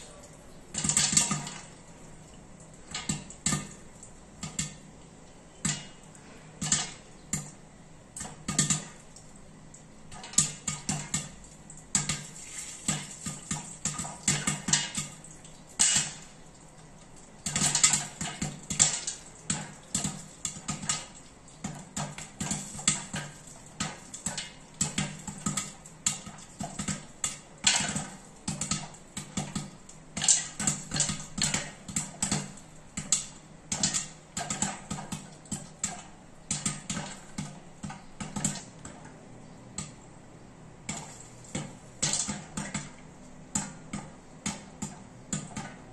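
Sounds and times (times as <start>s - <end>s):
popcorn popping in covered pot: 0.0s - 45.9s.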